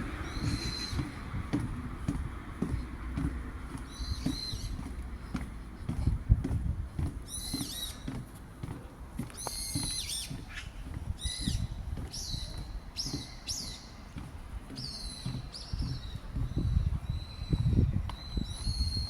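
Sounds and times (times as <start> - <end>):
birds chirping: 0.0 - 19.0
low uneven rumble: 0.0 - 19.0.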